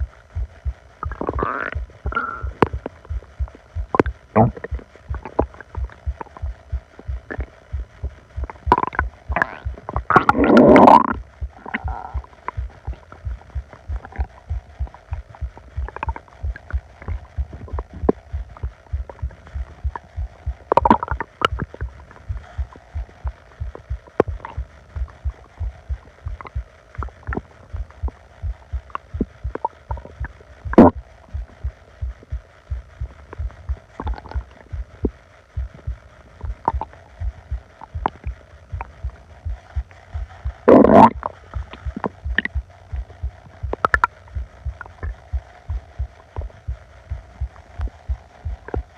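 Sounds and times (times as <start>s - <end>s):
low heartbeat thumping: 0.0s - 48.9s
stomach growling: 0.0s - 48.9s.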